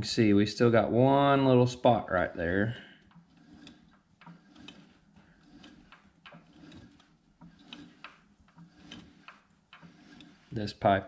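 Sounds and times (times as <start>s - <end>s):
lathe parts clicking and rattling: 0.8s - 11.0s.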